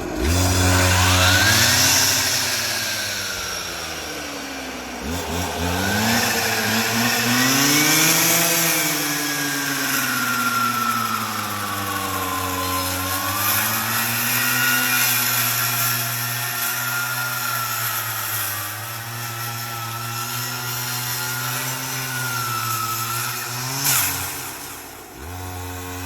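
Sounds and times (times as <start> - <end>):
power saw cutting wood: 0.0 - 26.0.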